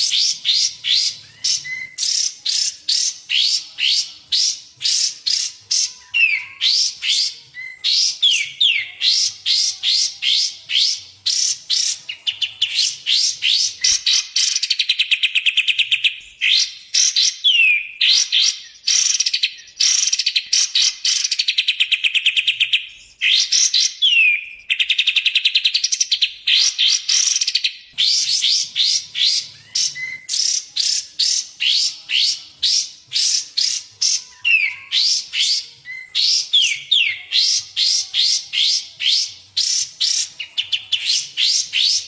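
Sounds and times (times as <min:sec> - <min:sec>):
down-slurred bird whistles: 0:00.0 - 0:42.0
songbird chattering and trilling: 0:00.0 - 0:42.0.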